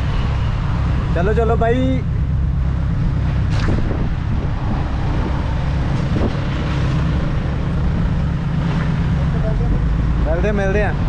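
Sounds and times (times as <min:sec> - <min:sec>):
car engine and road rumble: 0:00.0 - 0:11.0
wind noise on microphone: 0:01.8 - 0:11.0.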